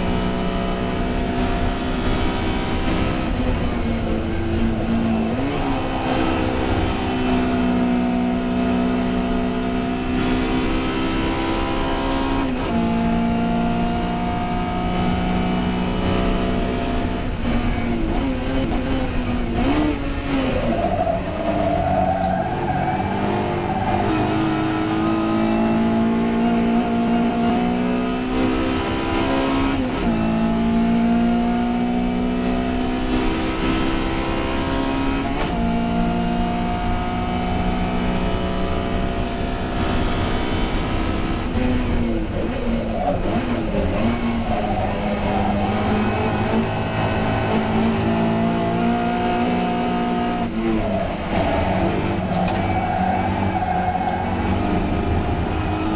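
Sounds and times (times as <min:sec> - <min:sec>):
race car engine at full throttle: 0:00.0 - 0:55.9.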